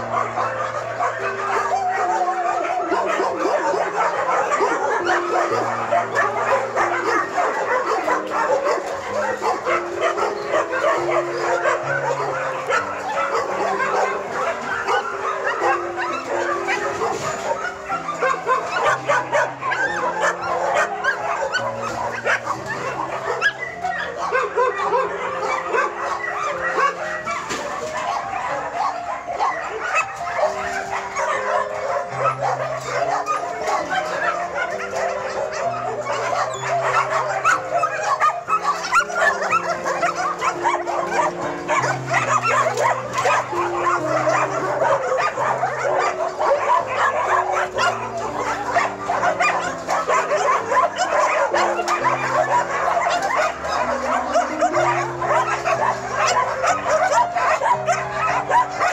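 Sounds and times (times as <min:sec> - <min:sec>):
dogs barking and whining: 0:00.0 - 0:58.9
music of low held notes: 0:00.0 - 0:58.9.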